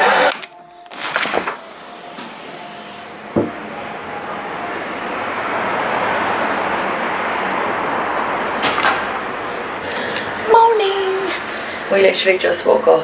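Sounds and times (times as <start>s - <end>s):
street traffic rush: 0.0s - 13.0s.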